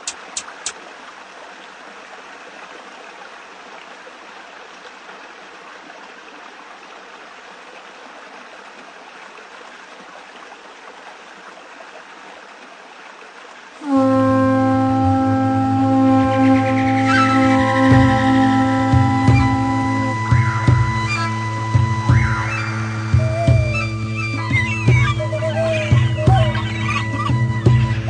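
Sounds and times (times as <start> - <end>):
rush of running water: 0.0 - 28.0.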